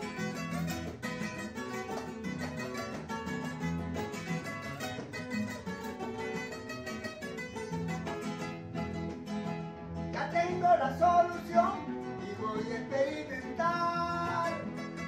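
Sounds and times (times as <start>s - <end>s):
picked guitar melody: 0.0s - 15.0s
strummed guitar accompaniment: 0.0s - 15.0s.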